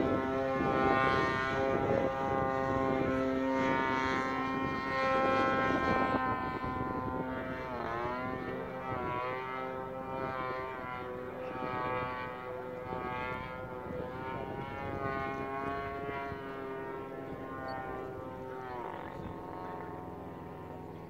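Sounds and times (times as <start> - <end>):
model plane engine running: 0.0 - 21.0.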